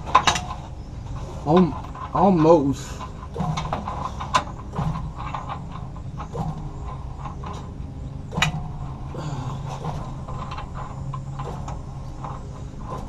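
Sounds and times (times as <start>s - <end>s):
metal bolt clicks and scrapes: 0.0s - 13.0s
steady low hum: 0.0s - 13.0s.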